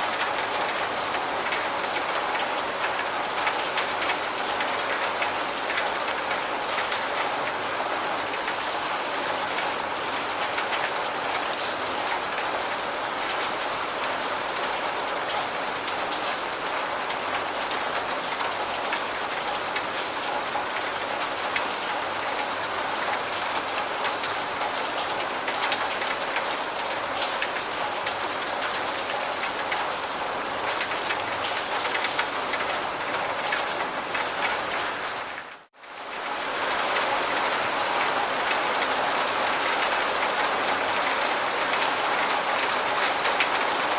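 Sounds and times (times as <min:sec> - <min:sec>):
heavy rain patter: 0:00.0 - 0:43.9.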